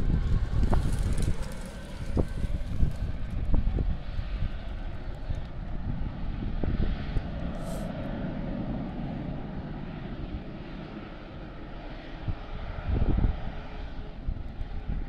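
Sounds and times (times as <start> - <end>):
aircraft engine drone: 0.0 - 15.0
wind gusting on microphone: 0.0 - 15.0.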